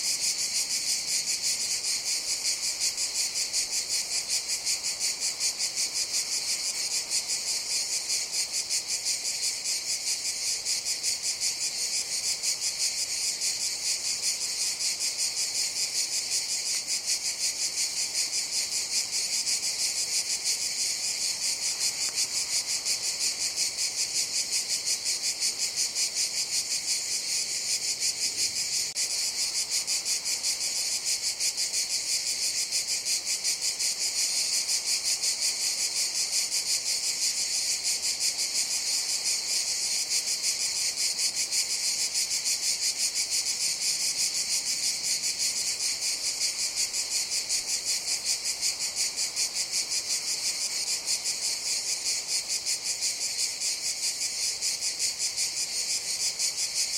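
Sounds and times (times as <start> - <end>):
cicadas buzzing: 0.0 - 56.9.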